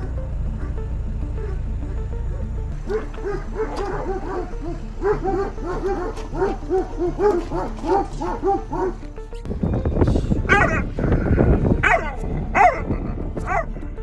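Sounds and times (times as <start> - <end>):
dog barking rapidly: 0.0 - 9.2, 10.4 - 13.8.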